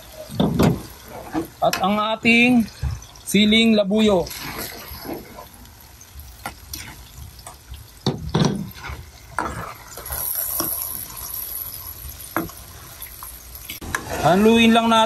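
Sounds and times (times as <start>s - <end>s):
sauce sizzling: 0.0s - 15.0s.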